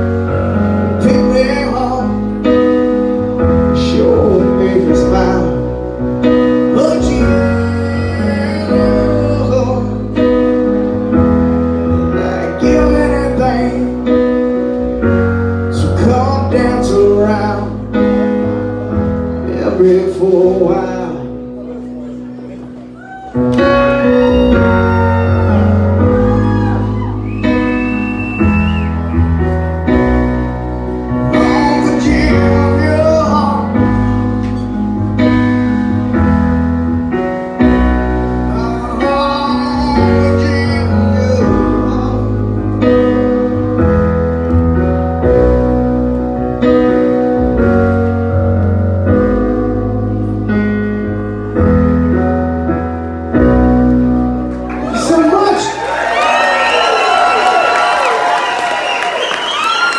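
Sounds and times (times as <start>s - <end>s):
low bass notes: 0.0s - 55.5s
keyboard piano chords: 0.0s - 59.9s.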